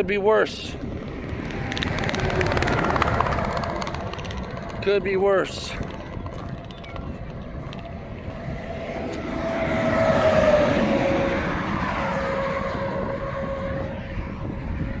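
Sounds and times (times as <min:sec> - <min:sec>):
vehicle passing on highway: 0:00.0 - 0:15.0.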